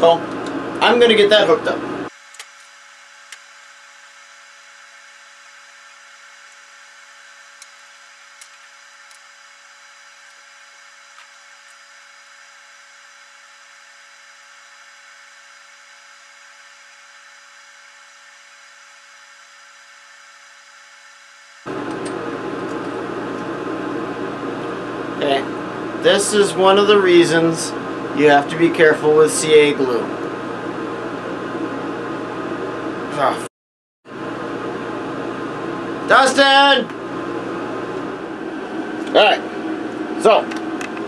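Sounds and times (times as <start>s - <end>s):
workshop hum and hiss: 0.0s - 33.5s, 34.1s - 41.0s.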